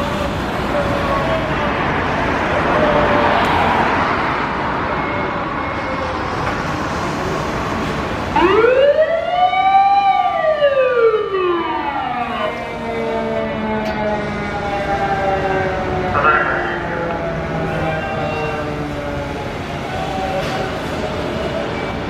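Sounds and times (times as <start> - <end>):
fire engine siren wailing: 0.0 - 22.0
street traffic noise: 0.0 - 22.0.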